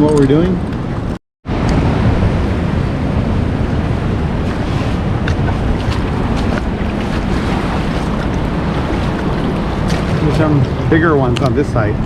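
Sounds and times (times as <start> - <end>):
wind on microphone: 0.0 - 12.0
ocean surf: 0.7 - 12.0.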